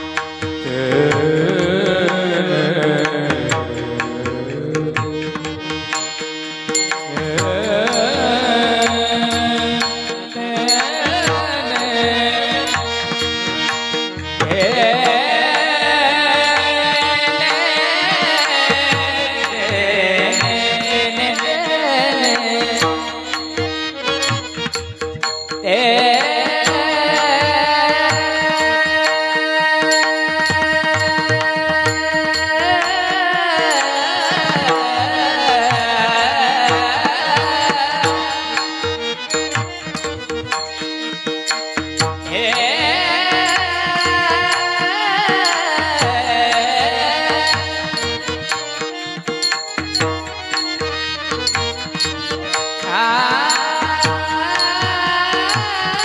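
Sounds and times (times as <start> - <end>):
woman singing devotional song: 0.0 - 6.4, 7.1 - 24.4, 25.6 - 39.8, 42.2 - 49.7, 52.0 - 56.0
harmonium held notes: 0.0 - 56.0.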